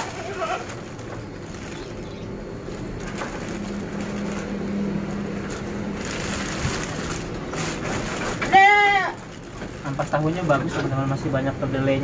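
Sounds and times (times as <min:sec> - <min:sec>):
plastic sheet crinkling: 0:00.0 - 0:10.9
low engine hum: 0:00.0 - 0:12.0.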